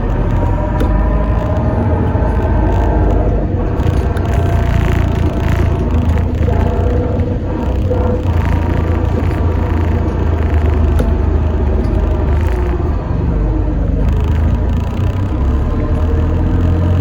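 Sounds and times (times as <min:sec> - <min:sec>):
bus engine and road rumble: 0:00.0 - 0:17.0
light rattles and clicks: 0:00.0 - 0:17.0.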